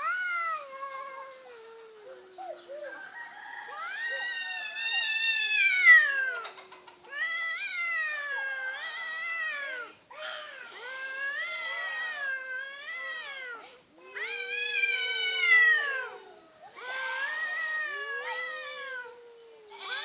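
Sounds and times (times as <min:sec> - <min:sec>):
cats yowling: 0:00.0 - 0:20.0.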